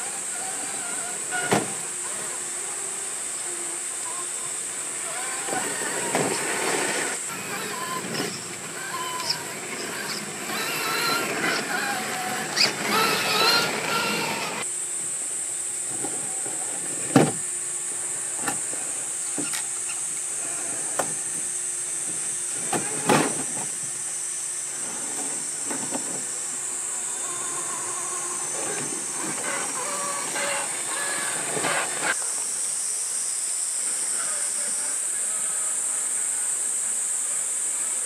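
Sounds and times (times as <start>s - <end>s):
electric motor whine: 0.0s - 37.9s
steady high hiss: 0.0s - 38.0s.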